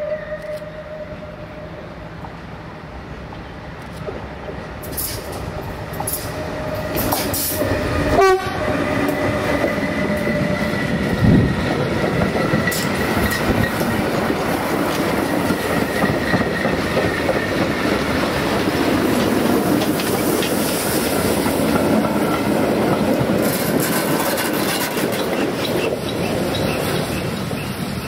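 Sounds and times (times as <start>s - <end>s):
train rolling past: 0.0s - 28.0s
wheels clacking over rail joints: 3.3s - 27.8s.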